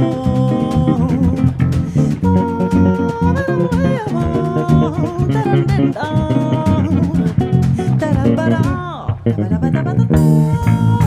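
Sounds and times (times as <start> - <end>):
band playing bossa nova: 0.0 - 11.0
wordless vocal melody: 0.0 - 11.0.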